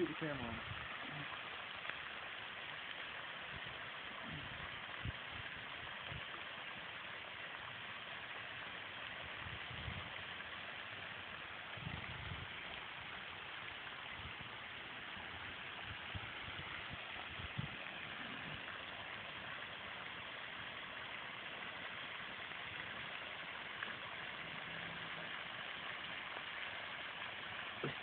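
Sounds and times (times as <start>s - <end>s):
outdoor background hiss: 0.0s - 28.0s.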